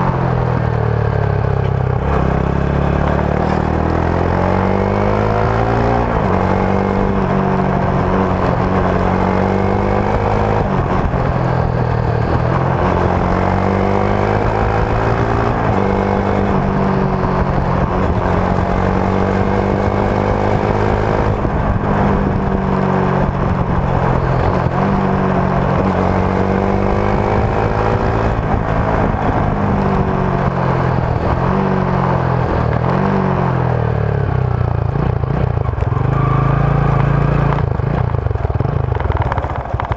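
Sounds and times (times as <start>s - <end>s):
motorcycle exhaust revving: 0.0s - 39.9s
road noise: 0.0s - 39.9s
wind: 0.0s - 39.9s.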